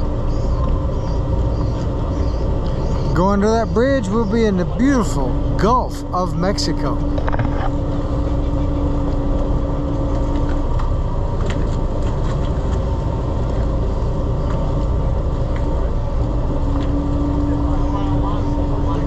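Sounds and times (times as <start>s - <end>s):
boat engine rumble: 0.0s - 19.0s
steady hum: 0.0s - 19.0s.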